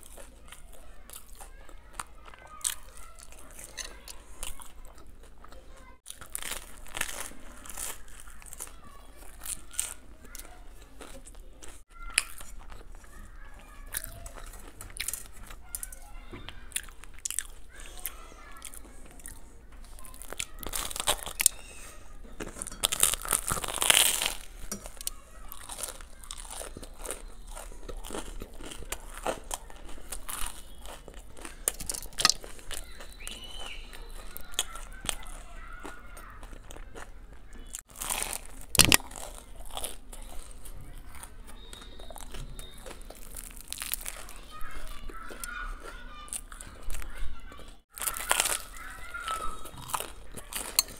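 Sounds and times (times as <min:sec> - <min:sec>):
crunchy bites and chewing: 0:00.0 - 0:50.9.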